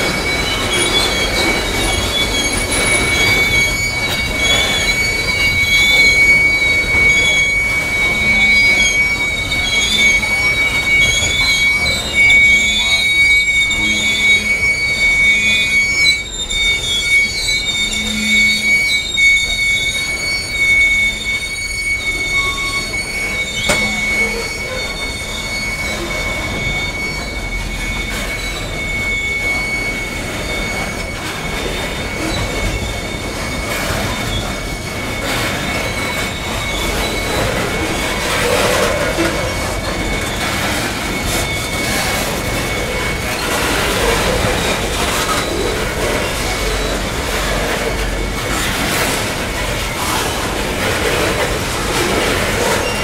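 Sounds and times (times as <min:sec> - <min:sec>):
rumble of freight cars: 0:00.0 - 0:53.0
train wheels squealing on rail: 0:00.0 - 0:53.0.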